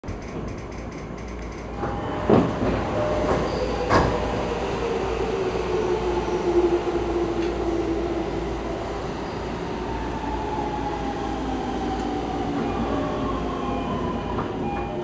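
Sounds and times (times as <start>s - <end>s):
train car hum: 0.1s - 15.0s
train doors sliding open: 0.1s - 15.0s.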